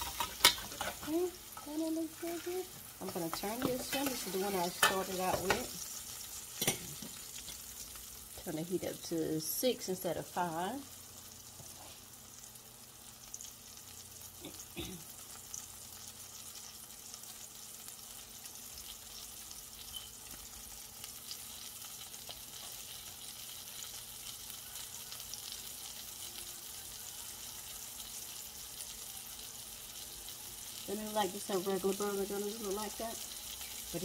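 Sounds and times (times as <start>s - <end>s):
patties sizzling in a skillet: 0.0s - 34.0s.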